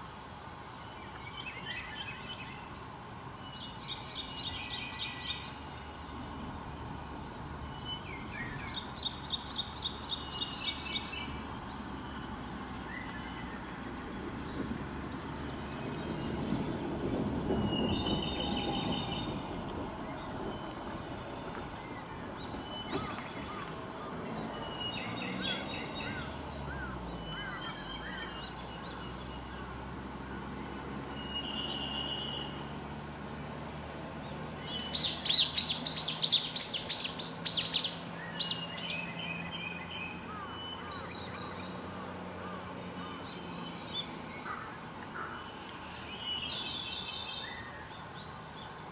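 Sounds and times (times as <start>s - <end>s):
birds calling and singing: 0.0s - 48.9s.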